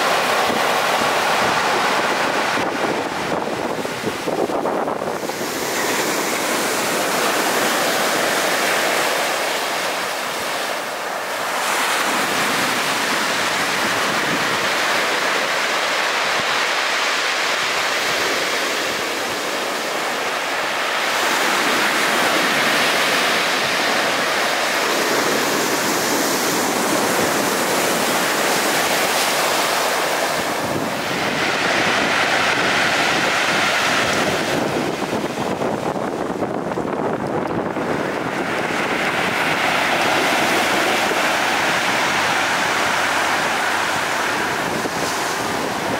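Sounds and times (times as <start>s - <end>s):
surf breaking on pebble shore: 0.0s - 45.9s
wind buffeting microphone: 0.0s - 45.9s.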